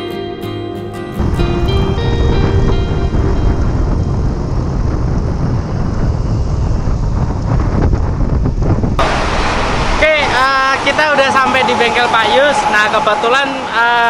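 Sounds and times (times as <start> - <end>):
wind rush on microphone: 1.2 - 14.0.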